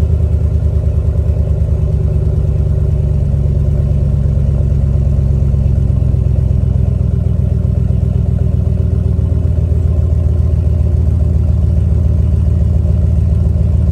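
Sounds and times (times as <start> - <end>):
truck engine idling: 0.0 - 13.9.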